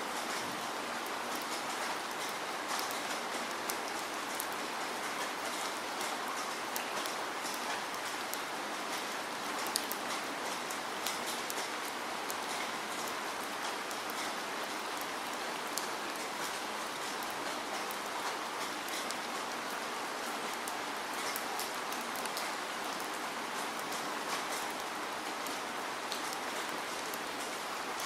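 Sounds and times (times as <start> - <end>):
steady rain hiss: 0.0 - 28.0
raindrops ticking: 1.0 - 28.0.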